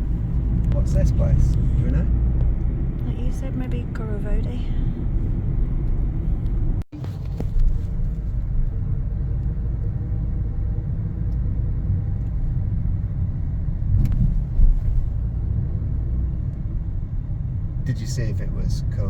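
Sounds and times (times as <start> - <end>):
car driving road rumble: 0.0 - 19.0.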